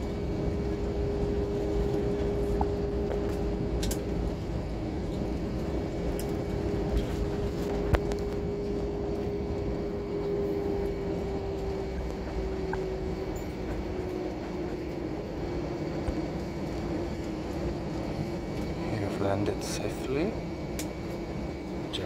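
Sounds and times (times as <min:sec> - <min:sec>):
rumble of engines and wheels: 0:00.0 - 0:22.0.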